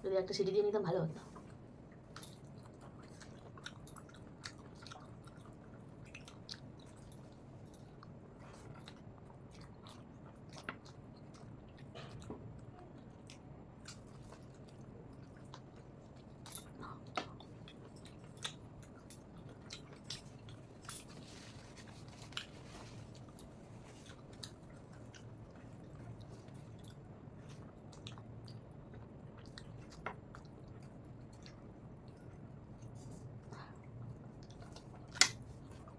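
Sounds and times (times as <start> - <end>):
steady low hum: 0.0 - 35.9
chewing and crunching food: 1.2 - 35.9.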